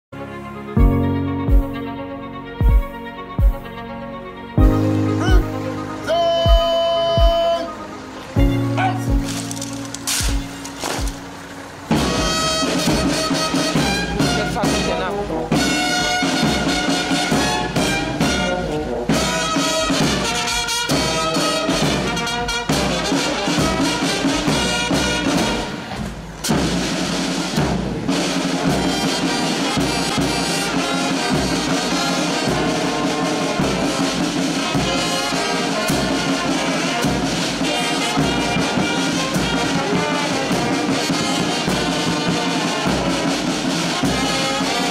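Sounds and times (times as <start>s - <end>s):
brass band music: 0.1s - 44.9s.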